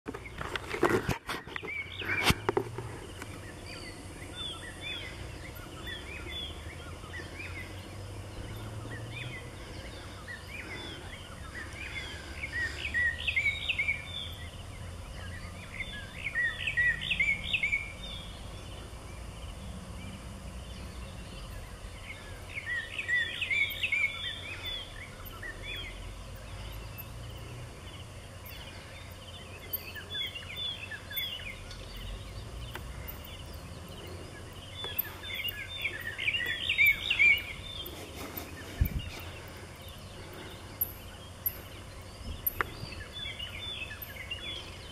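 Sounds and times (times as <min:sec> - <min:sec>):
steady low hum: 0:00.1 - 0:44.9.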